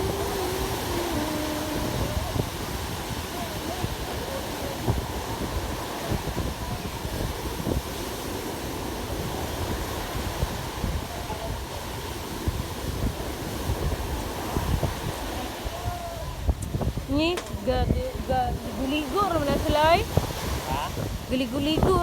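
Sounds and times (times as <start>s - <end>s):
ocean waves washing on shore: 0.0s - 22.0s
wind buffeting microphone: 0.0s - 22.0s.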